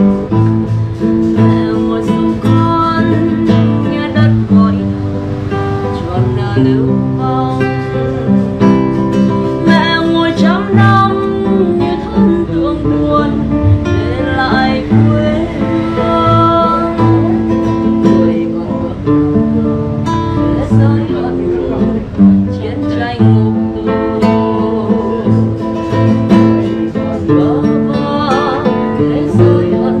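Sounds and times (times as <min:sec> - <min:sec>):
acoustic guitar: 0:00.0 - 0:30.0
woman singing: 0:00.0 - 0:30.0.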